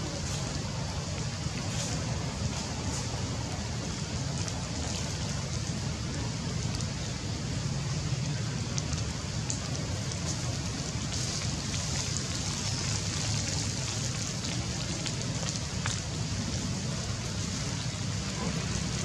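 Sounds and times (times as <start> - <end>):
light rain through tree leaves: 0.0 - 19.0
sharp drips: 0.0 - 19.0.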